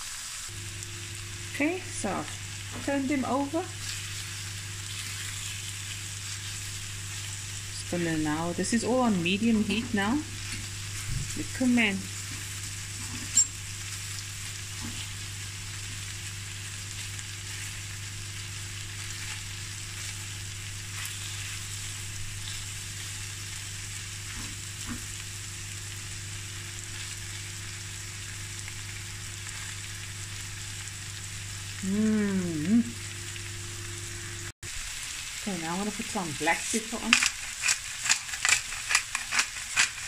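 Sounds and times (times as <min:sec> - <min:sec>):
chicken sizzling in a pan: 0:00.0 - 0:40.0.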